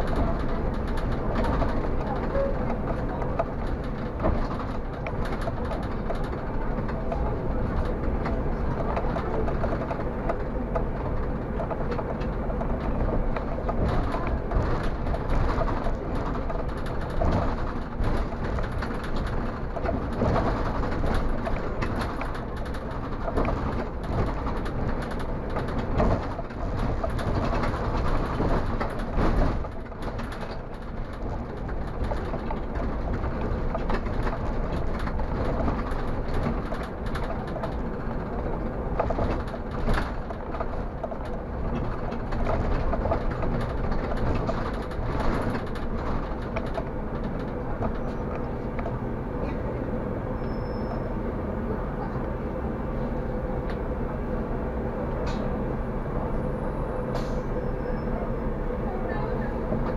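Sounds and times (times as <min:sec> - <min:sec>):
knocks and rattles: 0:00.0 - 0:48.9
bus engine and tyres rumbling: 0:00.0 - 0:59.9.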